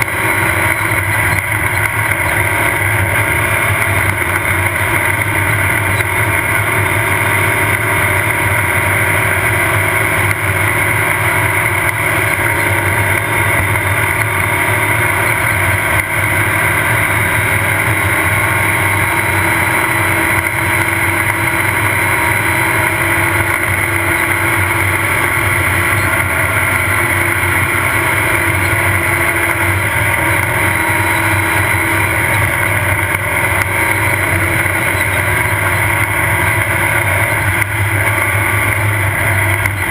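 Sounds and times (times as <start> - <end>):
race car engine running: 0.0 - 39.9
road noise: 0.0 - 39.9.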